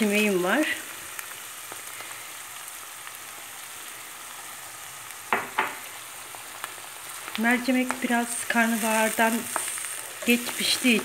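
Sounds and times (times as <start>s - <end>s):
onions sizzling in frying pan: 0.0s - 11.0s.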